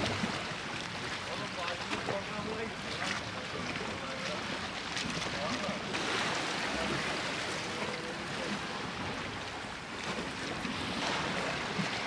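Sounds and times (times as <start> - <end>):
sea water washing: 0.0 - 12.0.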